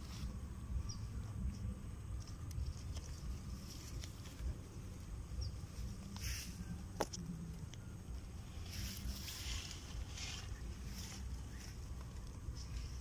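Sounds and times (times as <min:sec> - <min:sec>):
faint clicks and rustles: 0:01.2 - 0:13.0.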